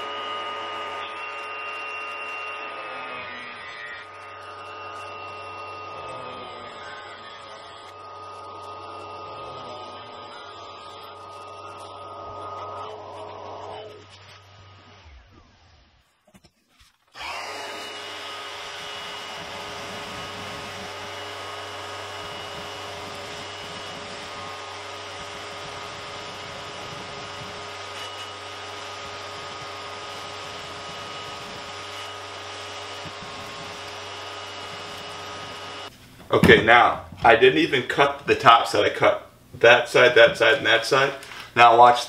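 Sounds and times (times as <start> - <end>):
vacuum cleaner motor whining: 0.0 - 16.0, 17.1 - 36.0
vacuum hose sucking dust: 0.0 - 16.0, 16.7 - 36.4.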